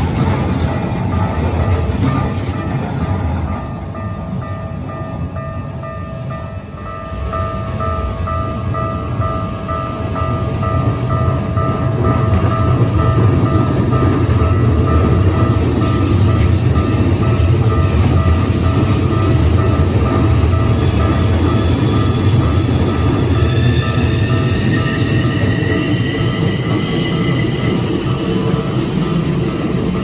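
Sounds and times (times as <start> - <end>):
crossing electronic warning bell: 0.0 - 30.0
train rumbling past: 0.0 - 30.0.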